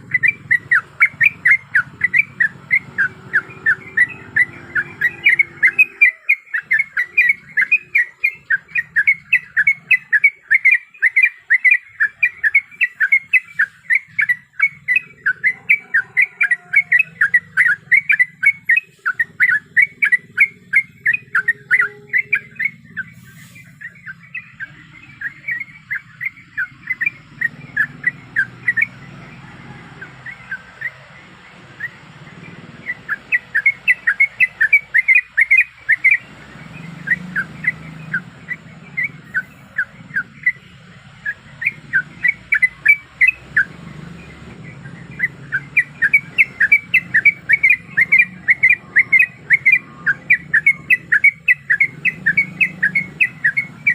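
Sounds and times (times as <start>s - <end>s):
bird chattering in sharp notes: 0.0s - 29.0s, 31.8s - 53.9s.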